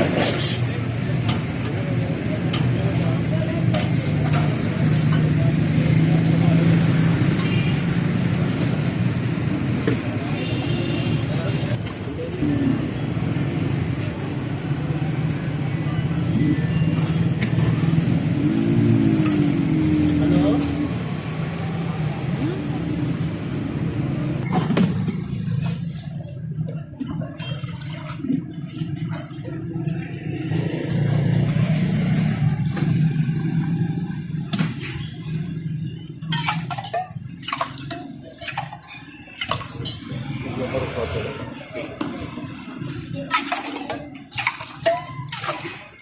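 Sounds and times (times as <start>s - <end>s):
road vehicle low rumble: 0.0s - 46.0s
traffic noise: 0.0s - 46.0s.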